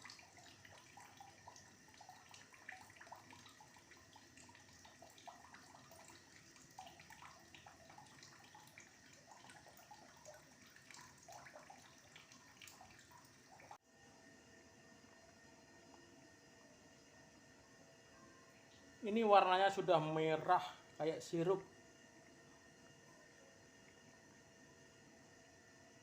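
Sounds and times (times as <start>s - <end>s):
pot bubbling while simmering: 0.0s - 19.3s, 21.6s - 26.0s.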